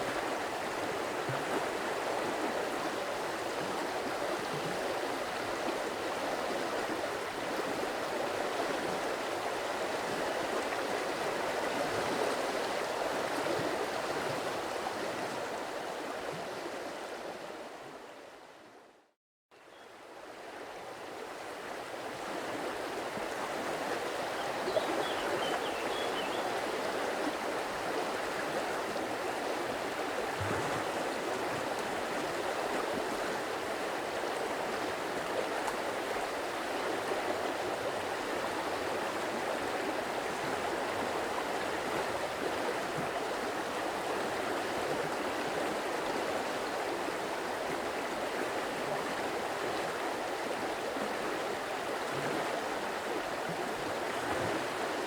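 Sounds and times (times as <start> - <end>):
stream water rushing and babbling: 0.0 - 55.0.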